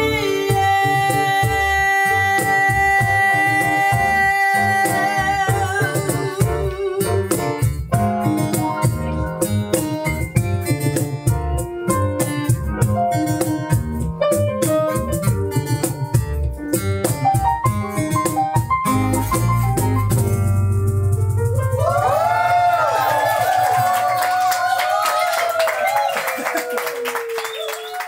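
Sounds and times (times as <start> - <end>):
keyboard melody: 0.0 - 22.9
band playing soul-pop instrumental: 0.0 - 24.1.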